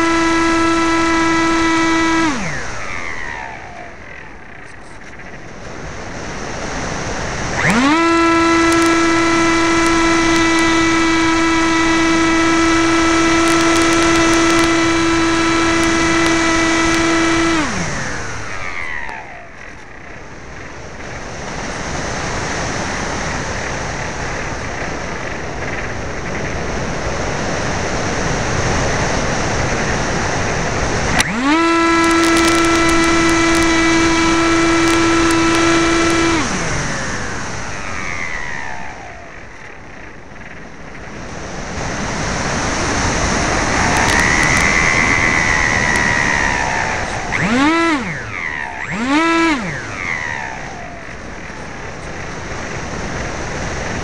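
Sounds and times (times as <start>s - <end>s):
electric motor and propeller whine: 0.0s - 54.0s
wind rushing over microphone: 0.0s - 54.0s.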